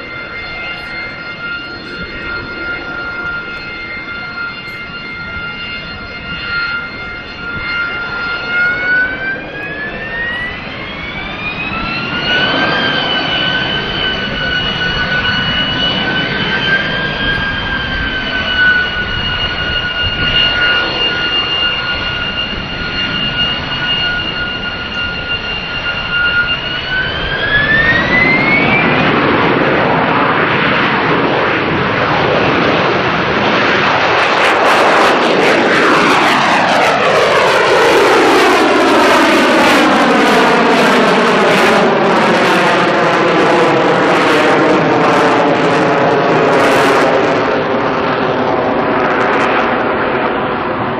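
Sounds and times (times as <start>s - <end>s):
jet engine high whine: 0.0s - 50.9s
jet roar: 0.0s - 50.9s.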